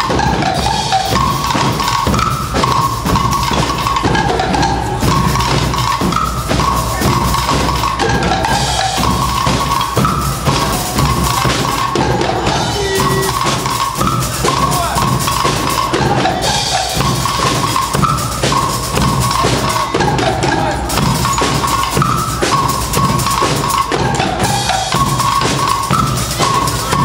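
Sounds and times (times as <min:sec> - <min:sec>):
bass drums and percussion: 0:00.0 - 0:27.0
brass and sousaphones melody: 0:00.0 - 0:27.0.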